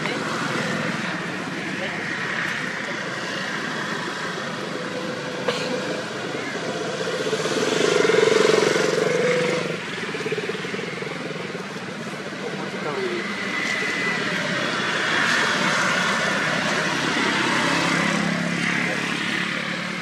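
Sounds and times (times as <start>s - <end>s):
vehicle engine passing: 0.0s - 20.0s.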